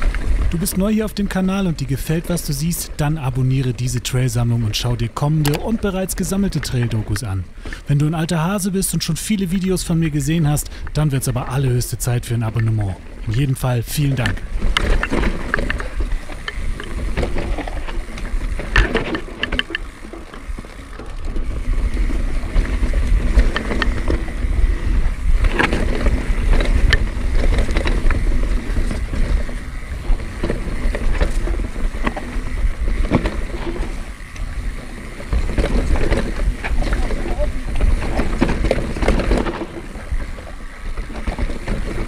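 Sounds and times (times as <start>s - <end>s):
wind rumble on microphone: 0.0s - 8.6s, 9.3s - 42.0s
bike rattling over bumps: 0.0s - 42.0s
tyres rolling over dirt and stones: 0.0s - 42.0s.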